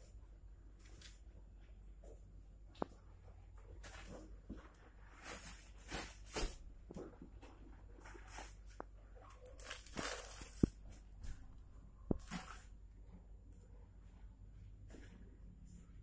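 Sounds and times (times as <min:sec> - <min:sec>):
rustling and handling noises: 0:00.0 - 0:16.0.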